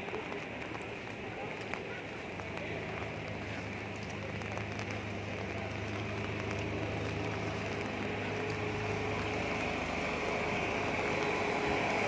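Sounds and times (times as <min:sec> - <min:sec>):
rain hiss on wet road: 0:00.0 - 0:12.0
vehicle engine humming: 0:00.0 - 0:12.0.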